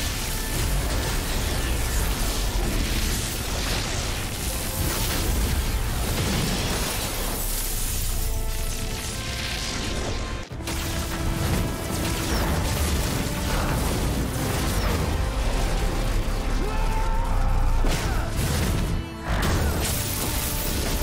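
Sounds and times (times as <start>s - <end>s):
dramatic music: 0.0s - 21.0s.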